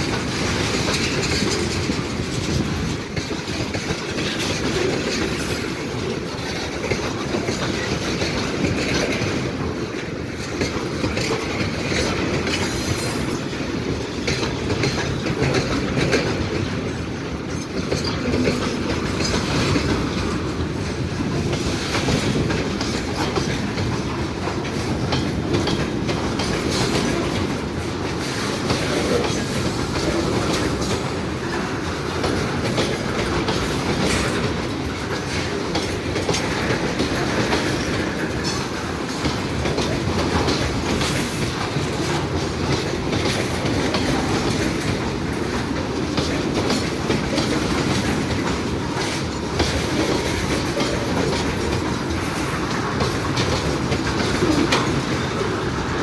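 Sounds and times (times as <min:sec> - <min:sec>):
train wheels on rails: 0:00.0 - 0:56.0
wheels clacking over rail joints: 0:00.0 - 0:56.0.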